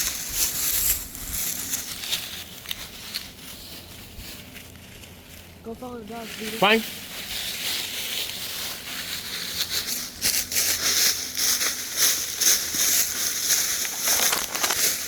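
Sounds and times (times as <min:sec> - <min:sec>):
footsteps on dry grass and brush: 0:00.0 - 0:15.0.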